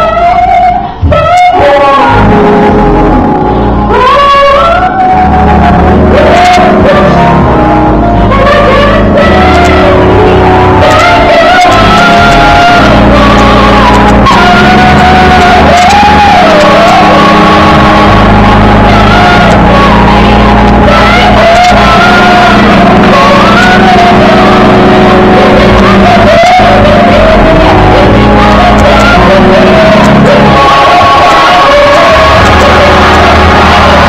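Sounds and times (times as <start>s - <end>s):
woman singing gospel song: 0.0s - 34.0s.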